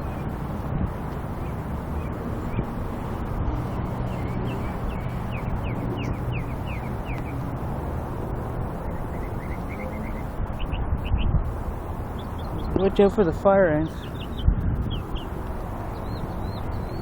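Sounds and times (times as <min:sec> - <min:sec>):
songbird singing: 0:01.1 - 0:02.8, 0:03.6 - 0:07.6, 0:08.7 - 0:17.0.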